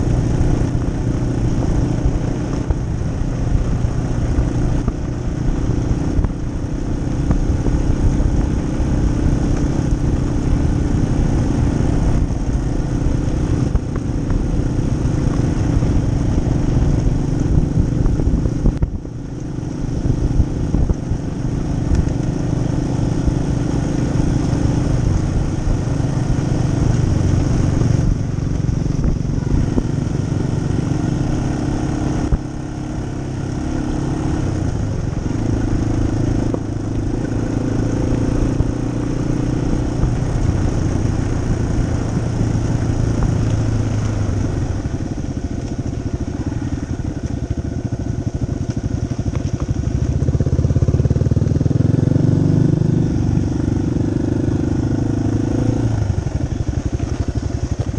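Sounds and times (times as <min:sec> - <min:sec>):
motorcycle engine riding: 0:00.0 - 0:57.9.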